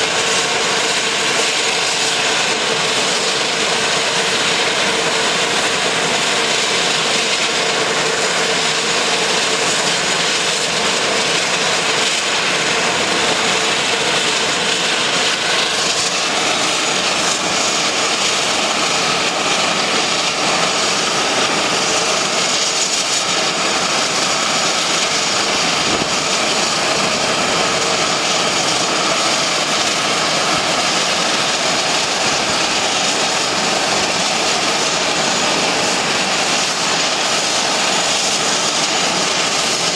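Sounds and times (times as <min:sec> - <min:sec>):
turboprop engine whine: 0:00.0 - 0:39.9.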